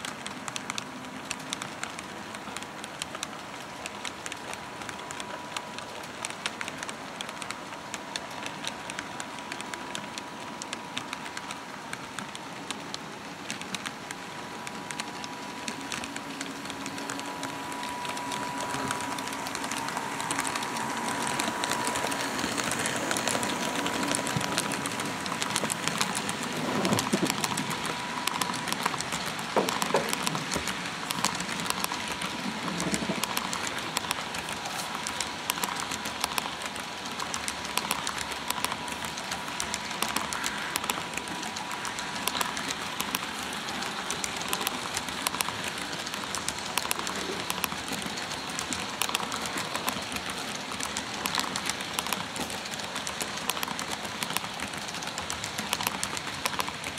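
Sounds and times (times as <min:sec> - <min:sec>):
model train wheels clattering: 0:00.0 - 0:56.9
thin steady whine: 0:00.0 - 0:56.9.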